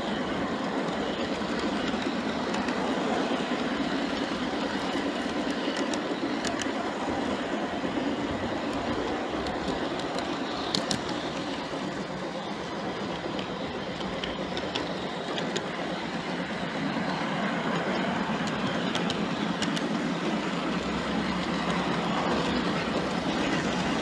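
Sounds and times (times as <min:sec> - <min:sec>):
model train wheels rumbling: 0:00.0 - 0:24.0.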